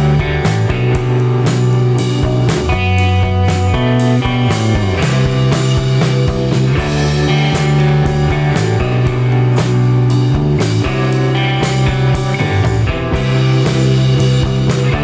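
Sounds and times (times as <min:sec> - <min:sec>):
music with guitar and drums: 0:00.0 - 0:15.0.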